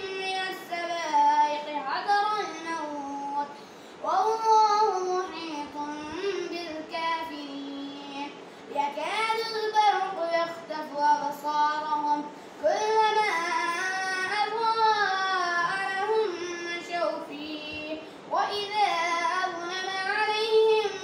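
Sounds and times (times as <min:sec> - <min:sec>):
child chanting melodically: 0:00.0 - 0:21.0.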